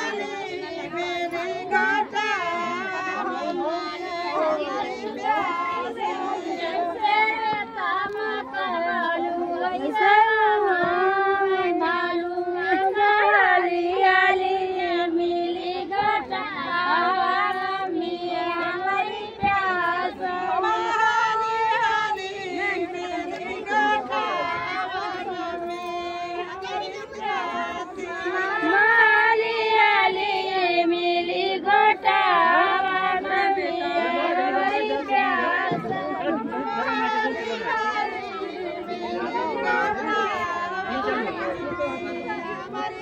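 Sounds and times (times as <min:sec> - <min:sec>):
women singing together: 0:00.0 - 0:43.0.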